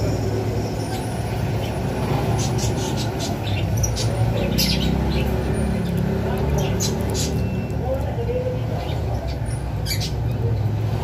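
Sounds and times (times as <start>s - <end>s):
lovebirds chirping: 0.9s - 10.7s.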